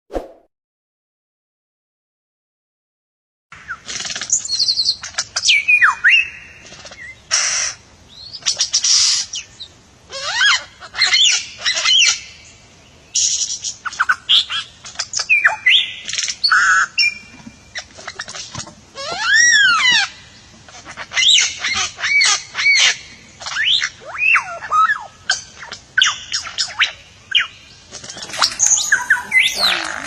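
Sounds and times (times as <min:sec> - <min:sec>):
songbird singing: 0:03.6 - 0:30.0.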